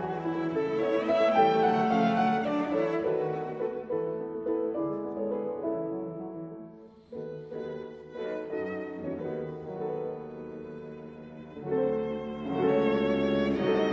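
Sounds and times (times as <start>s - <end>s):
violin background music: 0.0s - 13.9s.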